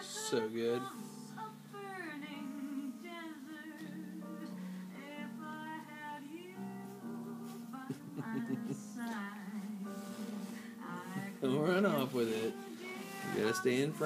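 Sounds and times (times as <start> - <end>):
guitar: 0.0 - 14.0
woman singing: 0.0 - 14.0.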